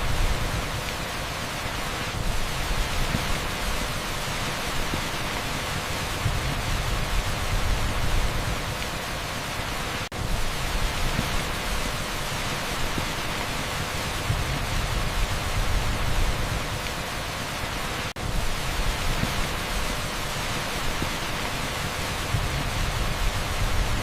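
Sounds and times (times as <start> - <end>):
heavy rain on asphalt: 0.0 - 24.0.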